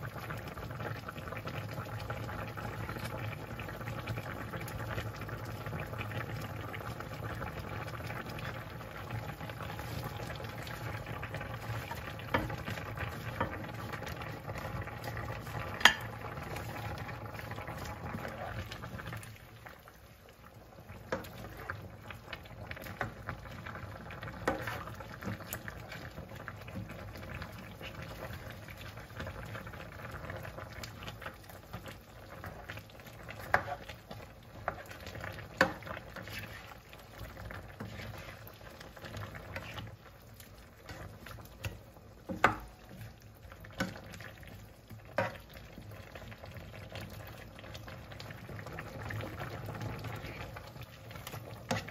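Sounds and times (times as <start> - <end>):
soup bubbling in a pan: 0.0 - 51.9
ladle stirring vegetables: 5.9 - 51.9.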